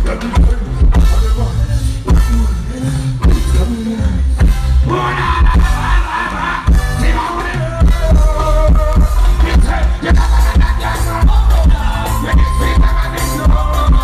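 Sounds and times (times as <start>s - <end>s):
heavy pulsing bass beat: 0.0s - 14.0s
person singing: 0.0s - 14.0s.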